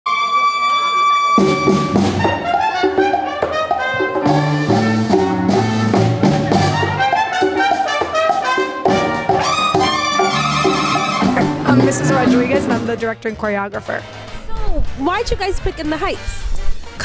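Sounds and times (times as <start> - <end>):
brass instrumental music: 0.1 - 17.0.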